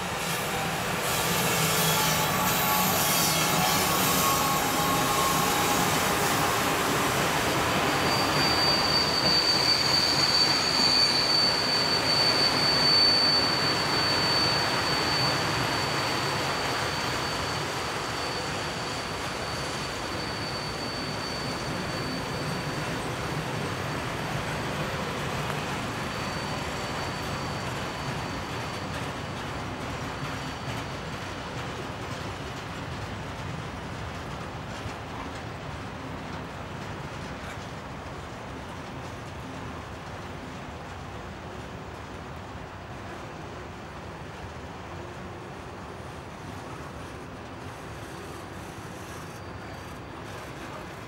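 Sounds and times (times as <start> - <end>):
high wheel squeal: 0.0 - 35.3, 44.0 - 51.0
freight train wagons rumbling: 0.0 - 51.0.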